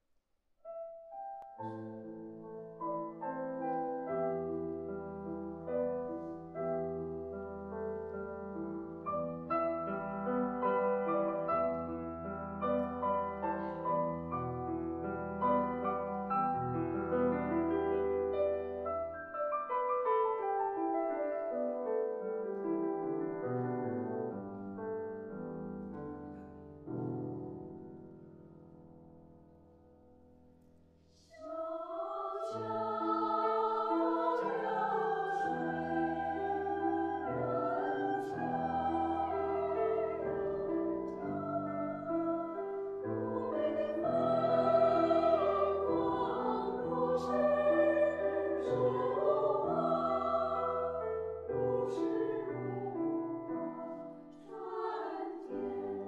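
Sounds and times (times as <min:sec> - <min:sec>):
grand piano playing: 0:00.7 - 0:30.9, 0:31.6 - 0:56.0.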